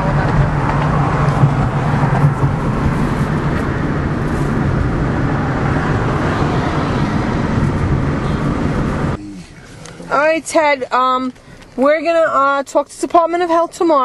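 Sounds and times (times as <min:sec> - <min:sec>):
car engine hum: 0:00.0 - 0:14.0
road rumble: 0:00.0 - 0:14.0.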